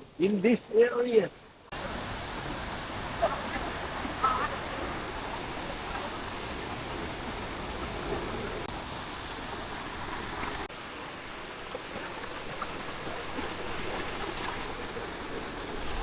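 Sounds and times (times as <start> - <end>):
river water rushing: 1.6 - 16.0.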